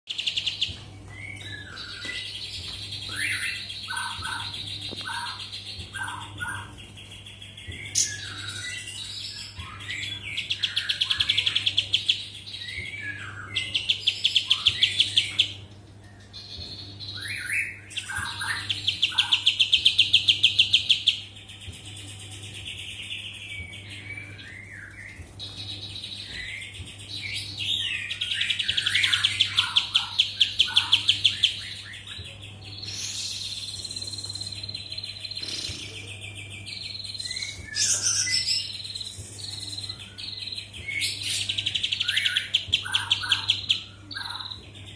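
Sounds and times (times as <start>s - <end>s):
steady low hum: 0.1s - 44.9s.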